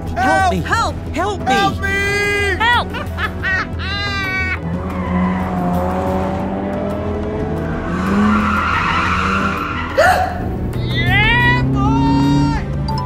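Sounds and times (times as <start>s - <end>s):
background music: 0.0s - 13.0s
tyres skidding: 0.9s - 13.0s.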